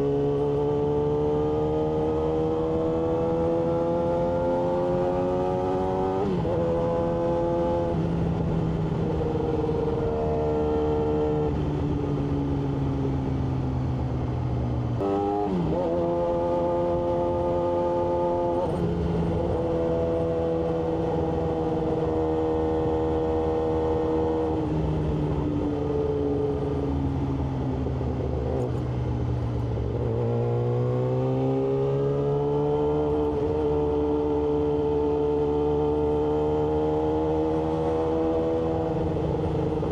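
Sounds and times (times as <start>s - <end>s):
motorcycle engine revving: 0.0s - 12.6s, 13.3s - 39.9s.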